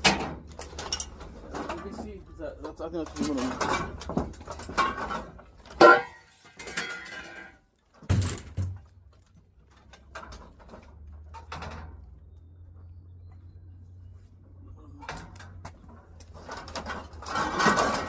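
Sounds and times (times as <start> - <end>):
objects knocking and clunking: 0.0 - 12.4, 15.0 - 18.0.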